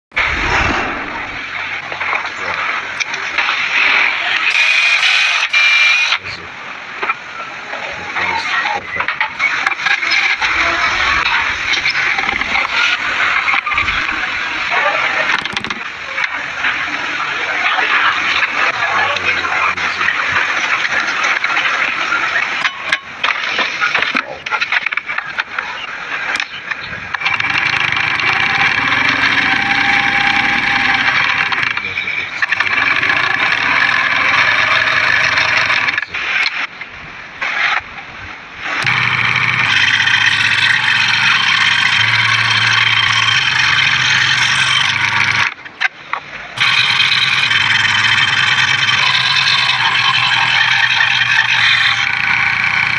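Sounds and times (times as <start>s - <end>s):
scroll saw whining: 0.1s - 6.4s, 8.2s - 36.6s, 38.7s - 45.6s, 46.6s - 52.9s.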